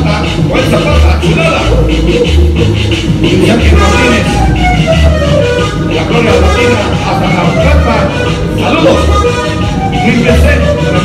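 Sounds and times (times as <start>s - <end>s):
accordion-led cumbia music: 0.0s - 11.0s
repeating bass beat: 0.0s - 11.0s.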